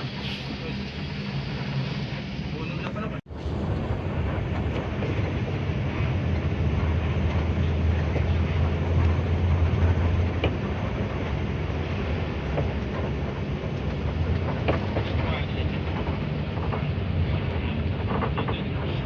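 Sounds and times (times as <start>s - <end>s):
bus engine drone: 0.0s - 19.0s
road noise: 0.0s - 19.0s.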